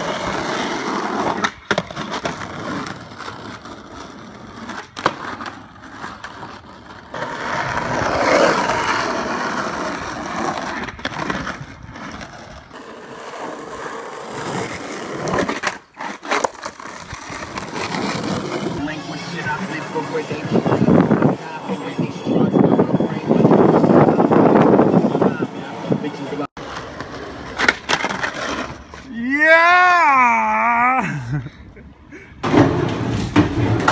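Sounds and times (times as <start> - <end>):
skateboard wheels rolling on asphalt: 0.0 - 31.4, 32.4 - 33.9.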